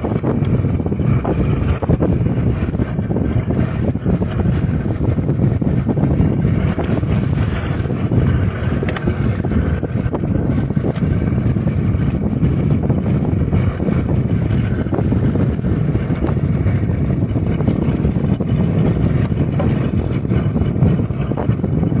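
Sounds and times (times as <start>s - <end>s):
boat motor running: 0.0s - 22.0s
wind buffeting microphone: 0.0s - 22.0s.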